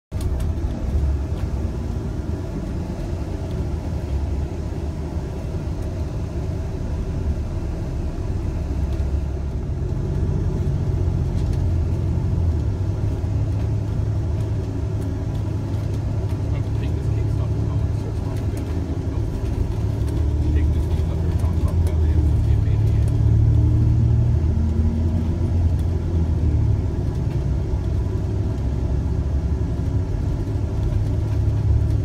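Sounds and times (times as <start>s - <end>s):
low hum: 0.1s - 32.0s
road vehicle rumble: 0.1s - 32.0s.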